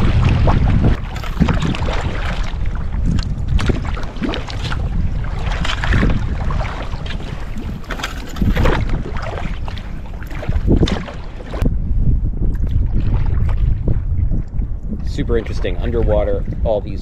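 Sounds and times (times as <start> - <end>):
paddle splashes in choppy water: 0.0 - 11.7, 12.6 - 14.7
wind buffeting microphone: 0.0 - 17.0.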